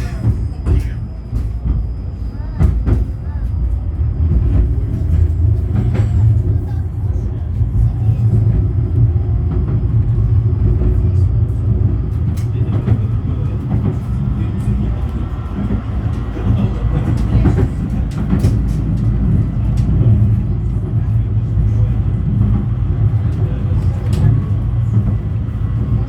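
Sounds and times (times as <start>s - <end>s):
tram rumbling in motion: 0.0s - 26.0s.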